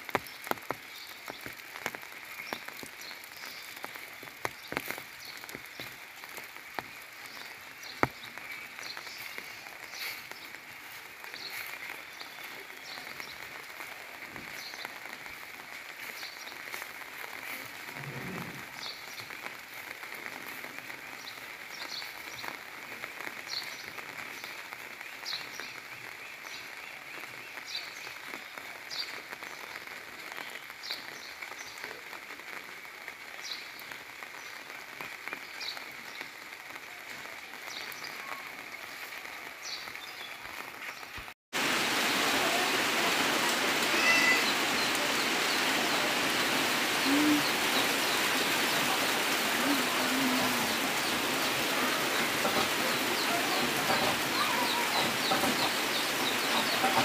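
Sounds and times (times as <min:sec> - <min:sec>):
light rain hiss: 0:00.0 - 0:57.0.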